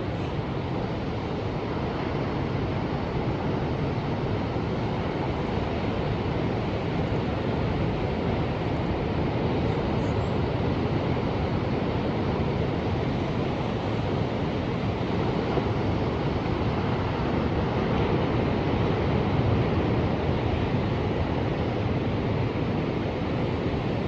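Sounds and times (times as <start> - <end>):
ocean waves: 0.0 - 24.0
wind: 0.0 - 24.0.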